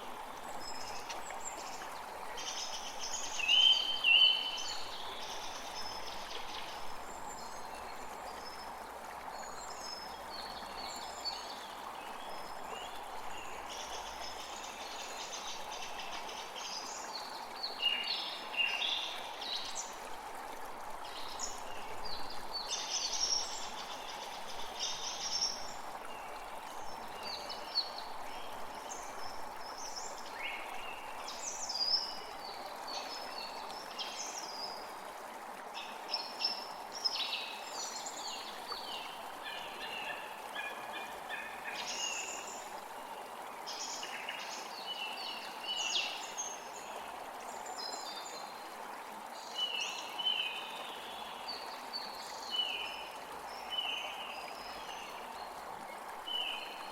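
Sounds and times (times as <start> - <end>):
creek flowing: 0.0 - 56.9.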